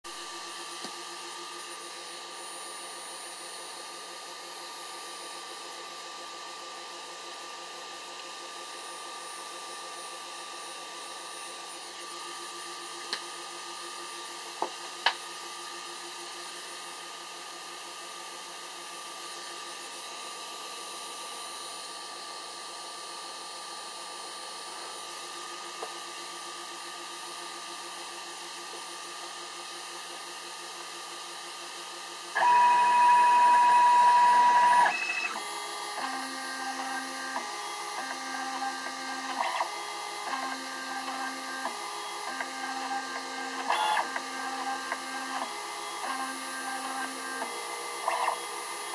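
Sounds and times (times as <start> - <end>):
small cooling fan whirring: 0.1 - 48.9.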